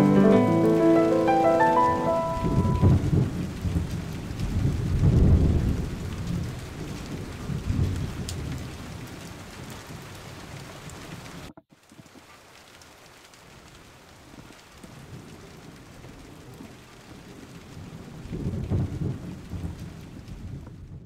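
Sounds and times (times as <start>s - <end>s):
rain falling on foliage: 0.0s - 21.0s.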